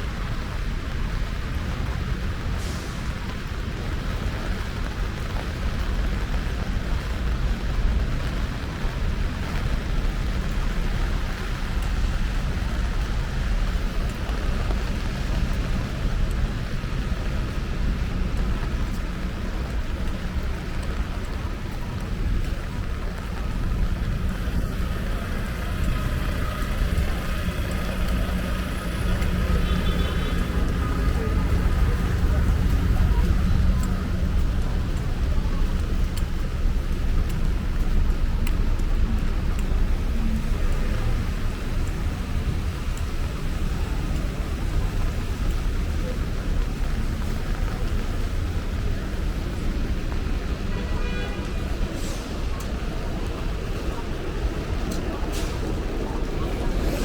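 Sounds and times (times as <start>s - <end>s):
tyres on wet street: 0.0s - 57.0s
rain hissing: 0.1s - 57.0s.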